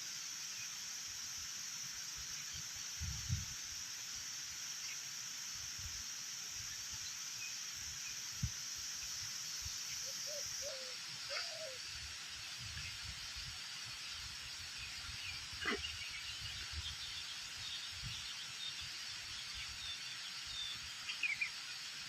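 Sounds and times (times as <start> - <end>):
high-pitched insect hiss: 0.0 - 22.0.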